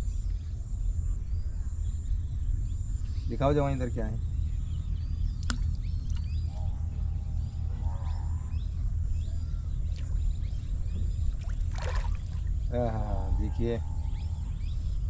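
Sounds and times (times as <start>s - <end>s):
faint bird chirps: 0.0s - 15.0s
steady low rumble: 0.0s - 15.0s.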